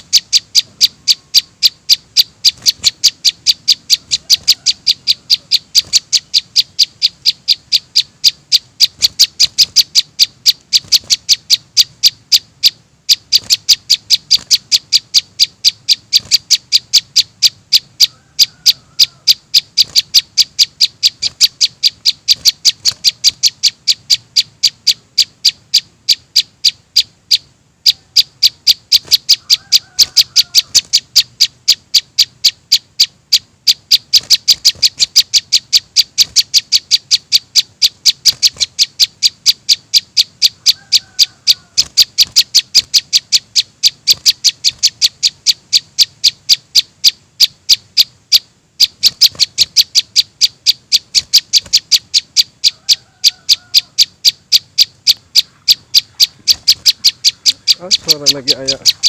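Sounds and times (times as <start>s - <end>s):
high sharp bird chirps: 0.0s - 59.0s.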